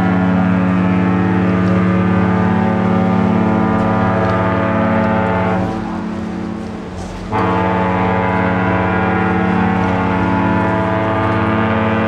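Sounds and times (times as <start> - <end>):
ship's horn blast: 0.0 - 12.0.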